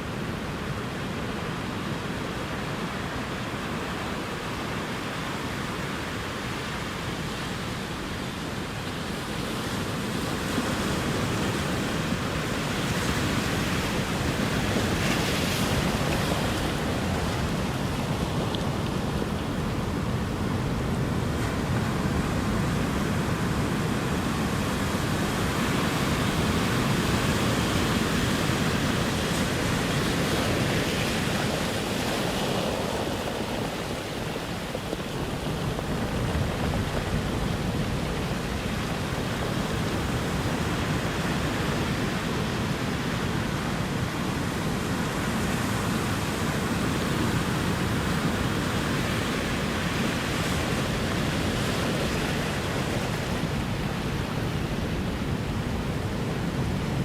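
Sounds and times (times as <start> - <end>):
ocean surf washing: 0.0 - 57.0.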